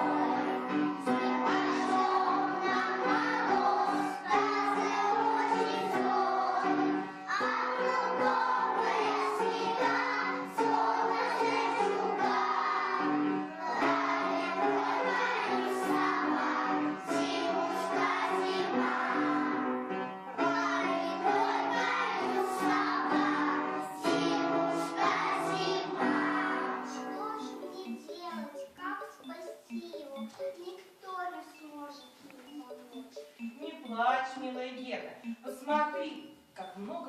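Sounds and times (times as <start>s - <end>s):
children singing: 0.0s - 30.4s
recorded backing track: 0.0s - 37.0s.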